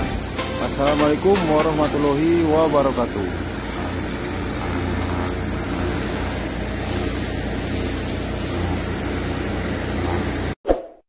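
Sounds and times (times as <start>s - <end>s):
machinery noise with low hum: 0.0s - 10.6s.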